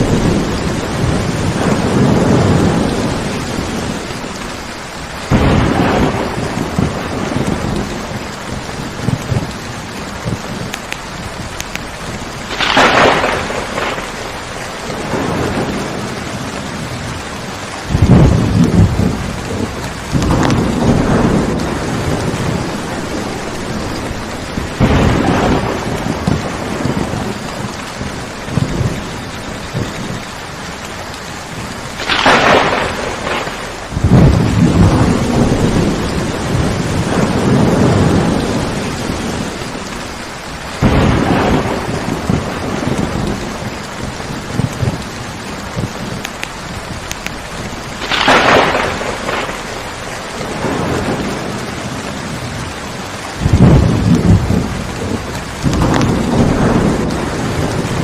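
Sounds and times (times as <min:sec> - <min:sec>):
sharp thunder cracks: 0:00.0 - 0:04.4, 0:05.2 - 0:10.8, 0:11.4 - 0:17.1, 0:17.8 - 0:29.1, 0:31.9 - 0:39.8, 0:40.8 - 0:52.7, 0:53.4 - 0:58.0
heavy rain: 0:00.0 - 0:58.0
thunder rolling: 0:00.0 - 0:58.0.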